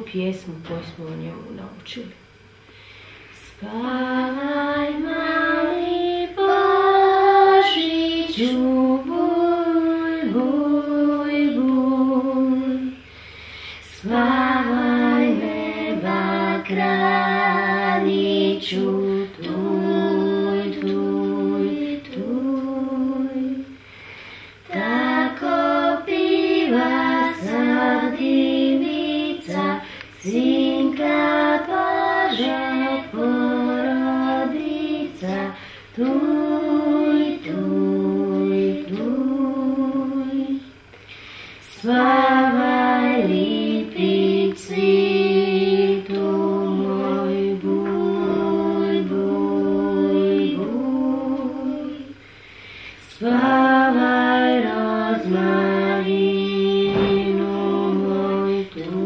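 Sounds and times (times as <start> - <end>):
woman and girls singing: 3.3 - 40.9, 41.6 - 59.0.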